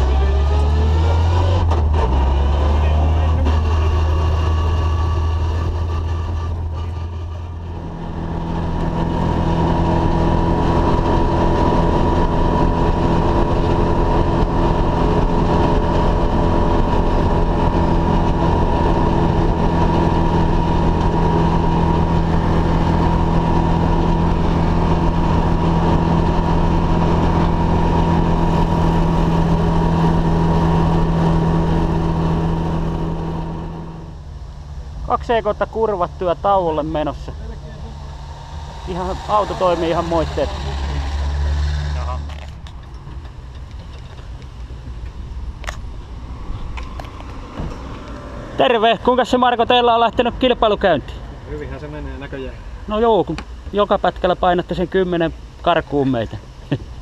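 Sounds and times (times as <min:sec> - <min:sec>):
car engine cruising from inside cabin: 0:00.0 - 0:35.2, 0:35.8 - 0:52.6.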